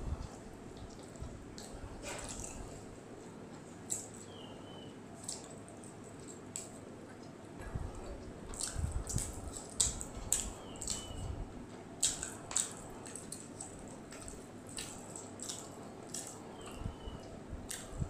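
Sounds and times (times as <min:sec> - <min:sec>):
wet chewing and lip smacks: 0:00.2 - 0:02.9, 0:03.5 - 0:04.4, 0:05.2 - 0:11.4, 0:12.0 - 0:18.0.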